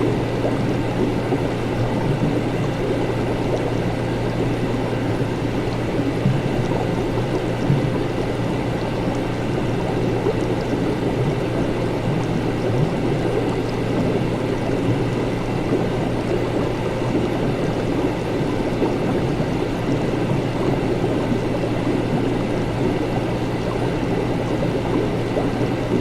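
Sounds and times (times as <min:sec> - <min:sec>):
liquid bubbling and running: 0:00.0 - 0:26.0
low steady hum: 0:00.0 - 0:26.0.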